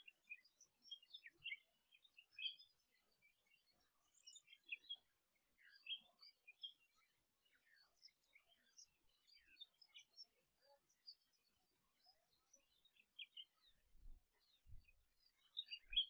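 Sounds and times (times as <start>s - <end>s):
small birds twittering: 0.0s - 16.0s.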